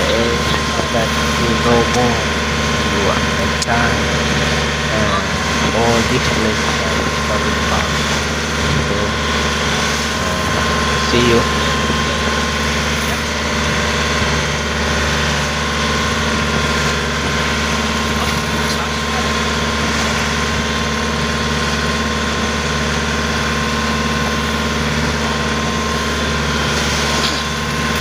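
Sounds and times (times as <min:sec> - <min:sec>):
boat engine humming with whine: 0:00.0 - 0:28.0.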